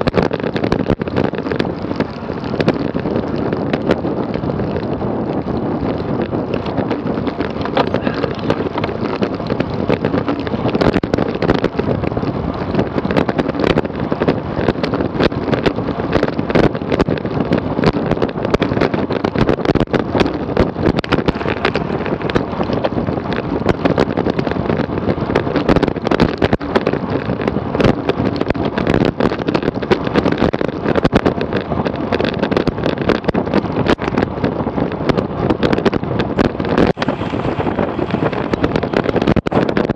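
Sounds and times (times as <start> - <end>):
bike clicks and rattles: 0.0 - 39.9
tyre and road noise: 0.0 - 39.9
wind rushing over microphone: 0.0 - 39.9.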